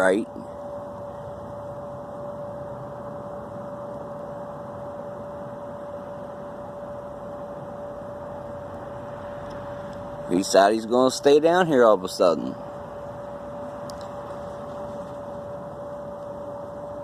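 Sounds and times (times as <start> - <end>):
mid-pitched hum: 0.0 - 17.0.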